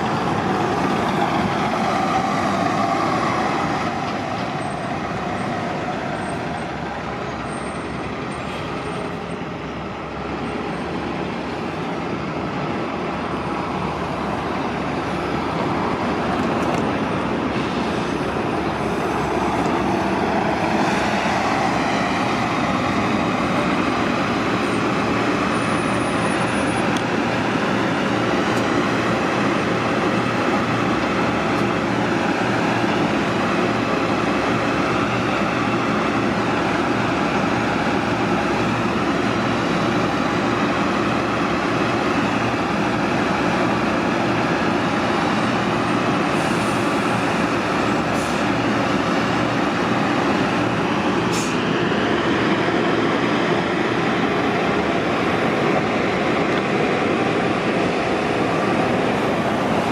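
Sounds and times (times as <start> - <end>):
bus engines and traffic noise: 0.0 - 59.9.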